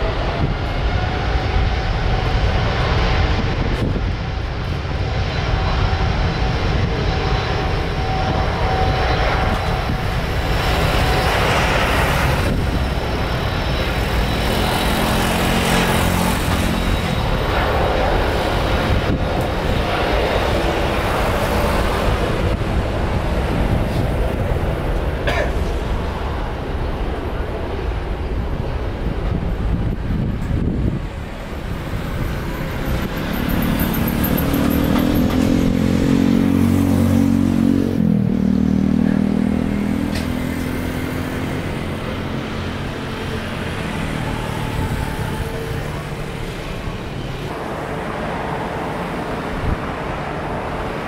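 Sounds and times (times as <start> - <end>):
faint engine whine: 0.0 - 51.0
jet engine rumble: 0.0 - 51.0.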